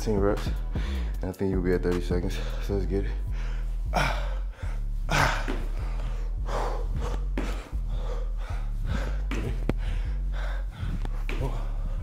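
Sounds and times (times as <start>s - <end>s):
steady low hum: 0.0s - 12.0s
man breathing hard: 0.4s - 1.2s, 2.2s - 12.0s.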